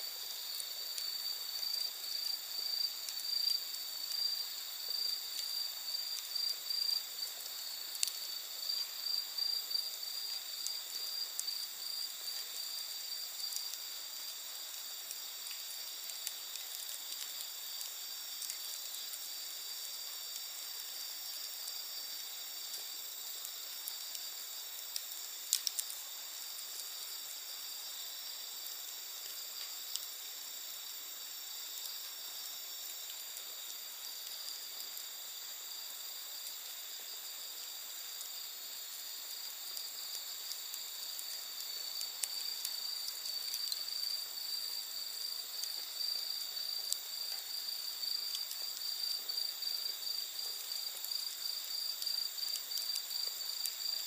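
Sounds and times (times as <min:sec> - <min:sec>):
campfire crackling and popping: 0:00.0 - 0:54.0
night insects chorus: 0:00.0 - 0:54.0.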